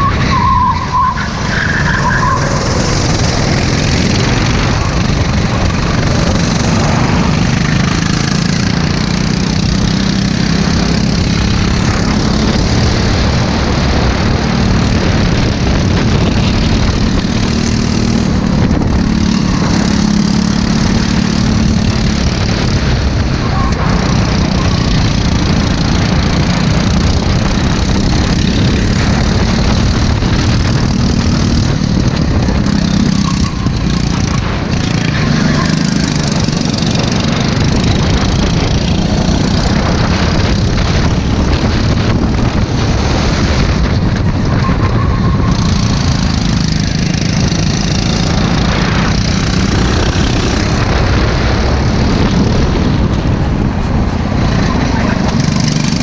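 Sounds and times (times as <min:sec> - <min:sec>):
go-kart engine running hard: 0:00.0 - 0:56.0
wind and track noise: 0:00.0 - 0:56.0.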